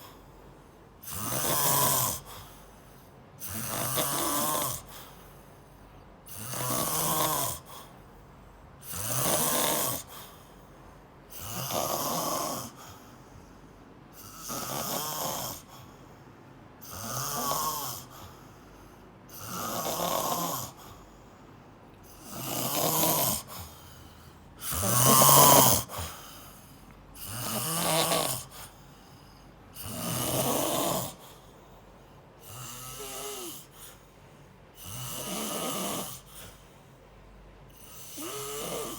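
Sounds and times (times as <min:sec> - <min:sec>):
quiet breaths: 0:00.0 - 0:38.9
person snoring: 0:01.0 - 0:05.4, 0:06.3 - 0:08.0, 0:08.8 - 0:10.7, 0:11.3 - 0:16.1, 0:16.8 - 0:21.4, 0:22.0 - 0:31.8, 0:32.4 - 0:34.1, 0:34.7 - 0:36.6, 0:37.7 - 0:38.9.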